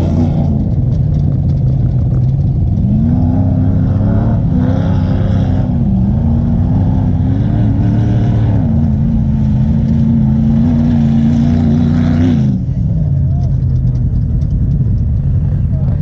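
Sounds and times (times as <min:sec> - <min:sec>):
atv engine running at low speed: 0:00.0 - 0:07.2, 0:08.0 - 0:16.0.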